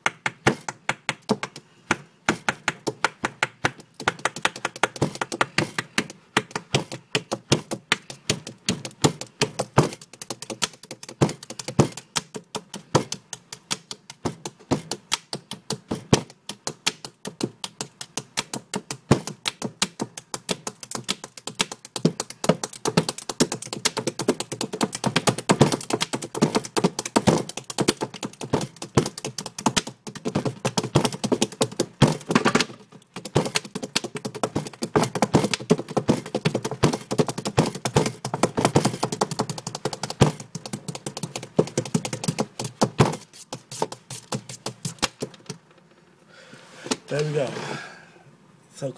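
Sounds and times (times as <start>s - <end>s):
hand drumming on hard surface: 2.4s - 45.5s.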